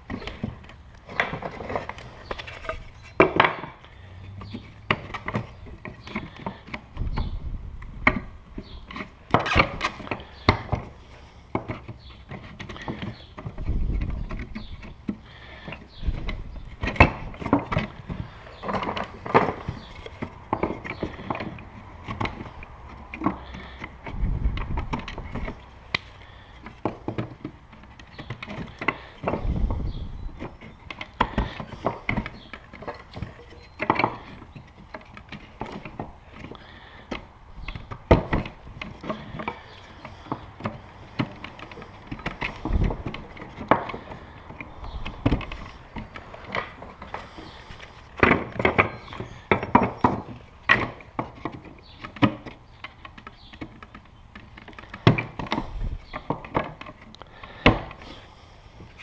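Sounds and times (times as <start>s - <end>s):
wooden frames clattering: 0.0s - 59.0s
dull thumps: 4.4s - 59.0s.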